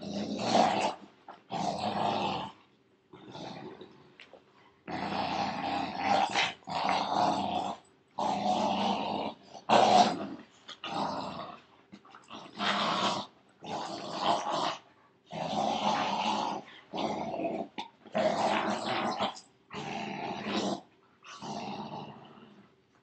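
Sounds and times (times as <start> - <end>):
puppies growling in play: 0.0 - 22.8.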